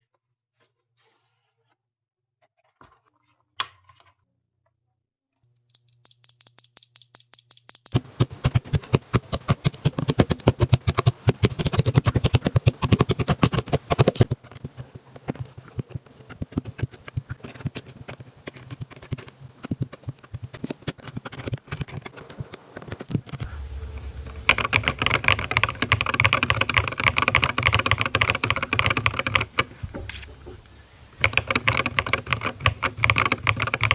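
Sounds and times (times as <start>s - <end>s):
mechanical keyboard typing: 5.6s - 30.4s, 31.1s - 33.9s.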